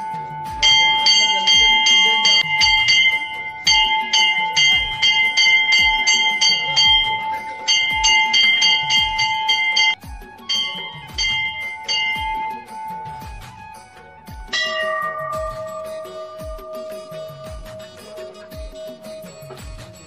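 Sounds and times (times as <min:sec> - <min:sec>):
low beat: 0:00.0 - 0:20.0
temple bells ringing rapidly: 0:00.0 - 0:20.0.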